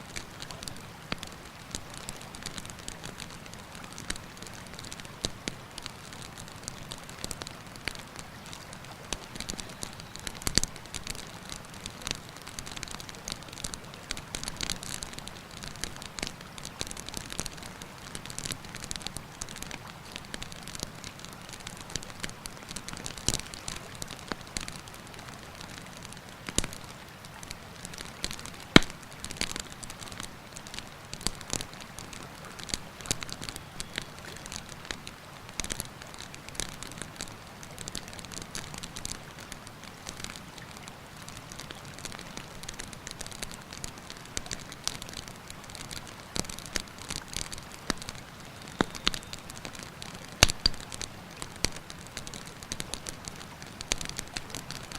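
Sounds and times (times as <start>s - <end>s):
campfire crackling and popping: 0.1s - 54.9s.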